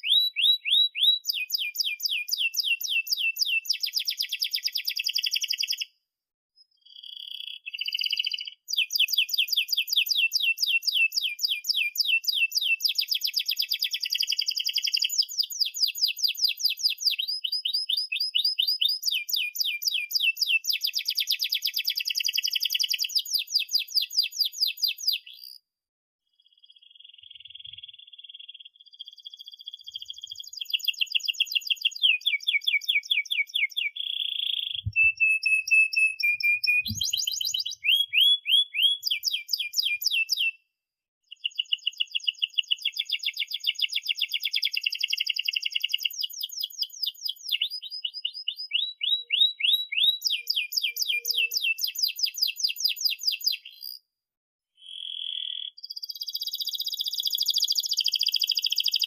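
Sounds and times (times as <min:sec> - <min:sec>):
canary singing trills: 0:00.0 - 0:05.9, 0:06.6 - 0:25.6, 0:26.4 - 0:40.6, 0:41.3 - 0:54.0, 0:54.8 - 0:59.0.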